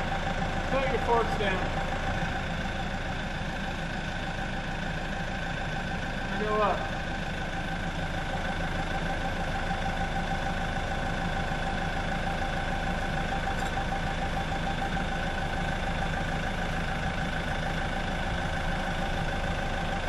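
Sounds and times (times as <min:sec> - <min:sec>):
forklift engine running: 0:00.0 - 0:20.0.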